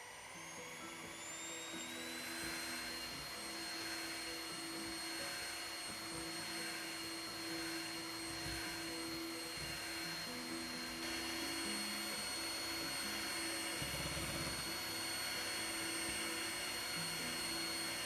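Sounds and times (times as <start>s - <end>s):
electric hand mixer whining: 0.0s - 18.0s.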